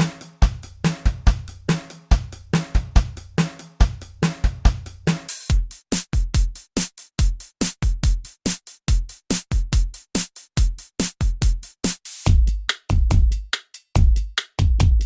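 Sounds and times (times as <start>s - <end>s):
drum machine beat: 0.0s - 15.0s.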